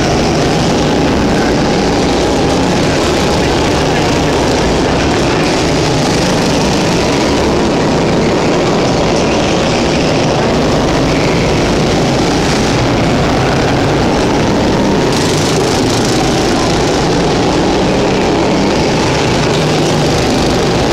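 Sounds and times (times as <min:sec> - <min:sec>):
go-kart engines running: 0:00.0 - 0:20.9.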